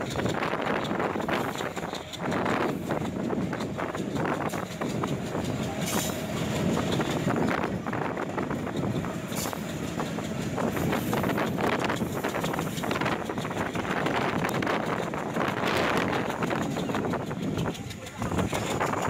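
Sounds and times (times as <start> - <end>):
train rumbling and rattling on track: 0.0 - 19.0
wind buffeting microphone: 0.0 - 19.0.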